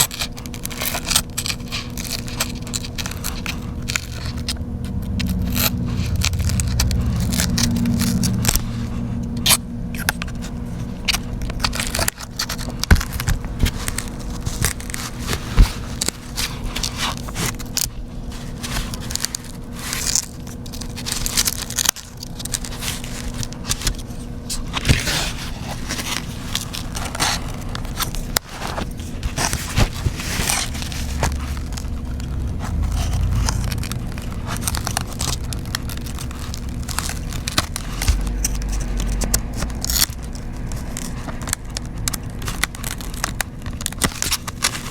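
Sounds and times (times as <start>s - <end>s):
faint hum: 0.0s - 44.9s.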